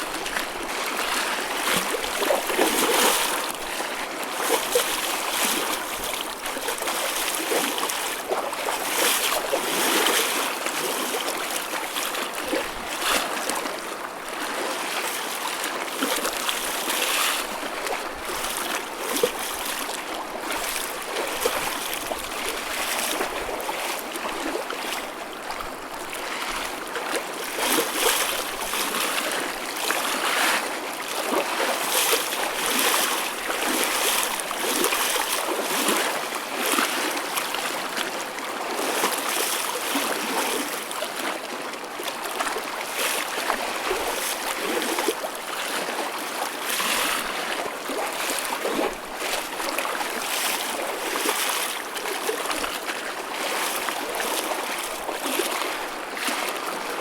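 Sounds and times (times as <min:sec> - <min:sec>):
choppy ocean waves sloshing: 0:00.0 - 0:57.0
small water splashes: 0:00.0 - 0:57.0.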